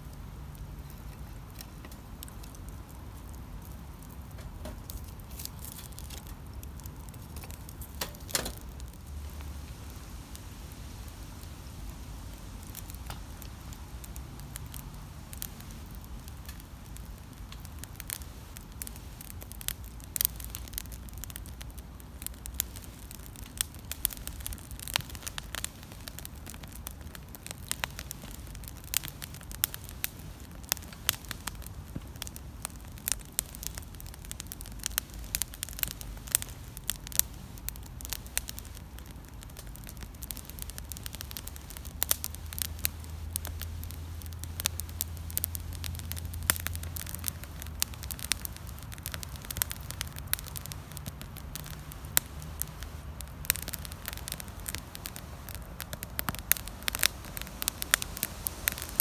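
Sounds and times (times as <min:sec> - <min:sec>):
campfire crackling and popping: 0:00.0 - 0:59.0
low steady rumble: 0:00.0 - 0:59.0.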